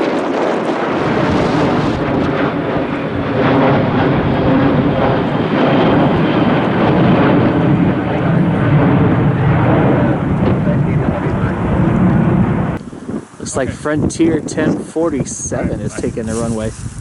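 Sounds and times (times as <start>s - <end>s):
jet engine noise: 0.0s - 17.0s
wind buffeting microphone: 0.0s - 17.0s.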